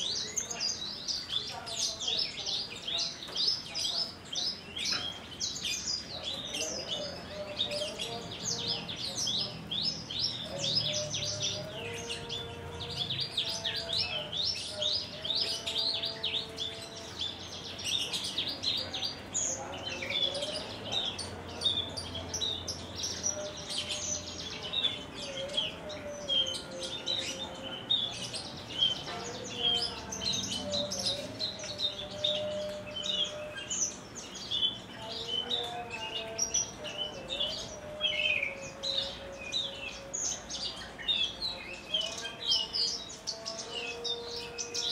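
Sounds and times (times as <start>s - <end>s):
bird singing rapid chirps and trills: 0.0s - 44.9s.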